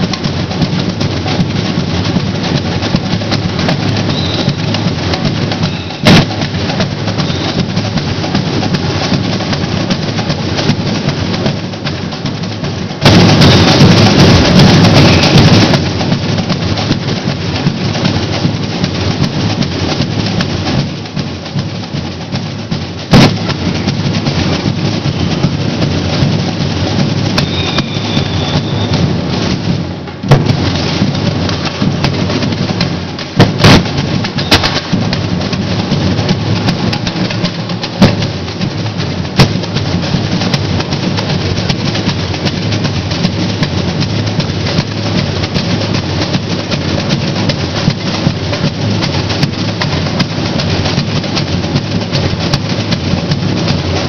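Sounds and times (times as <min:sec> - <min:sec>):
samba percussion band: 0:00.0 - 0:54.0
sharp drum strikes: 0:00.0 - 0:54.0.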